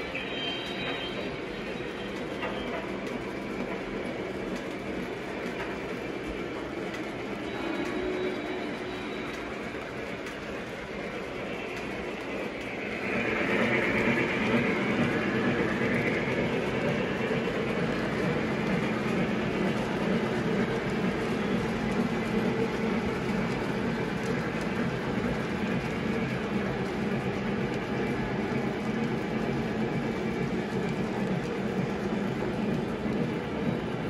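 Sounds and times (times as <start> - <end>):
model train rumbling on track: 0.0 - 34.0.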